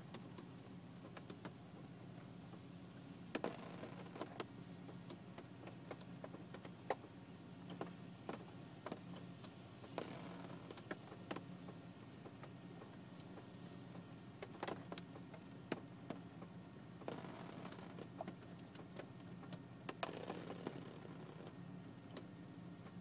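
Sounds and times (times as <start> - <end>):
low steady hum: 0.0 - 23.0
raindrops ticking on a car: 3.3 - 22.3.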